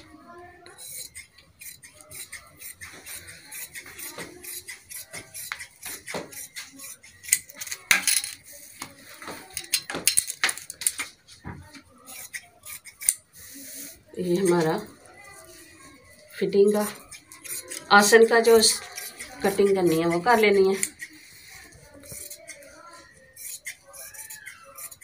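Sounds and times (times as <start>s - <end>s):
shears snipping cloth: 0.7s - 11.2s, 12.1s - 15.6s, 16.5s - 25.0s.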